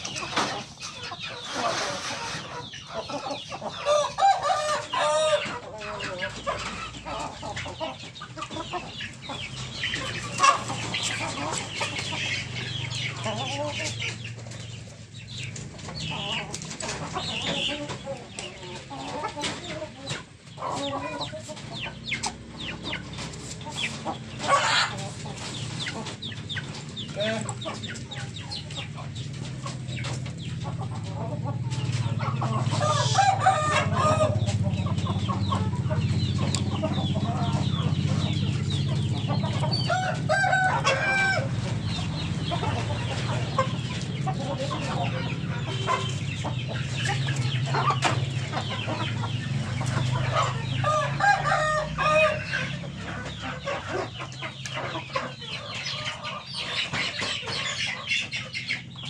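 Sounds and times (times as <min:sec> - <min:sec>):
chickens clucking: 0:00.0 - 0:59.0
roosters crowing: 0:00.0 - 0:59.0.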